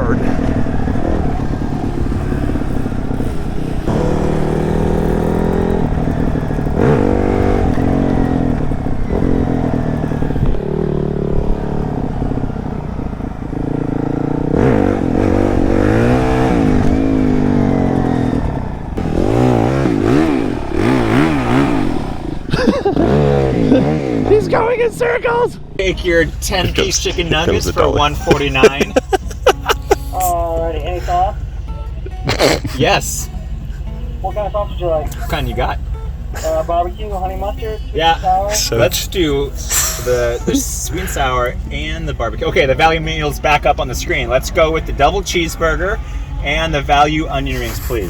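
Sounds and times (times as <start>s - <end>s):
dirt bike engine revving: 0.0s - 24.9s, 25.6s - 48.0s.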